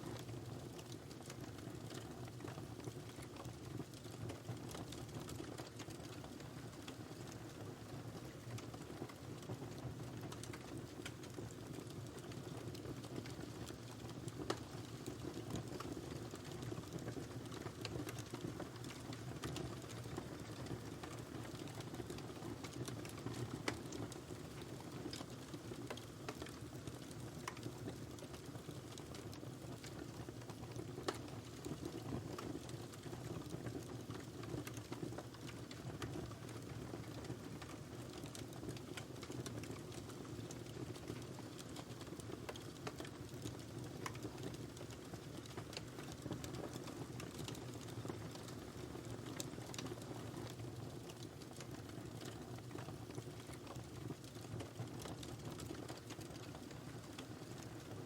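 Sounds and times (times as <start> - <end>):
fire crackles: 0.0 - 58.0
wood fire rumbling: 0.1 - 58.0.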